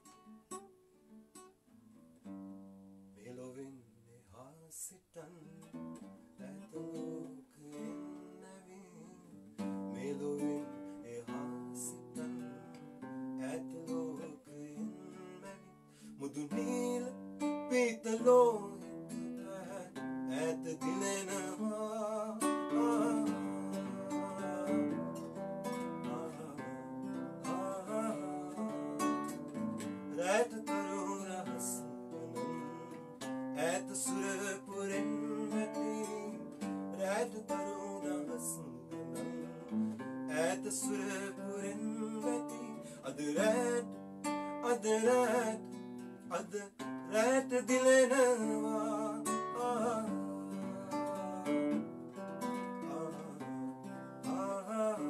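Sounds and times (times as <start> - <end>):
classical guitar playing: 0.0 - 3.2, 5.3 - 55.0
man singing: 3.2 - 5.8, 6.4 - 55.0.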